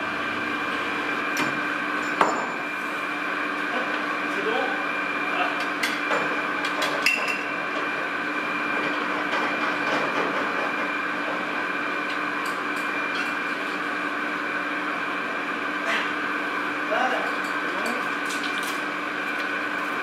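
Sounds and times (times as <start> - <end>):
machinery hum: 0.0 - 20.0.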